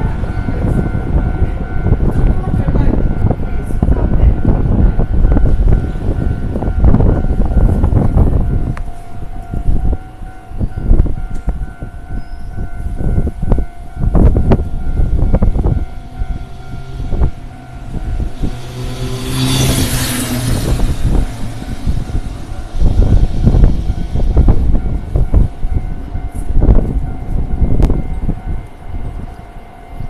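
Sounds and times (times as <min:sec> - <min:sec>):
level crossing warning bell: 0:00.0 - 0:30.0
train rumbling: 0:00.0 - 0:30.0.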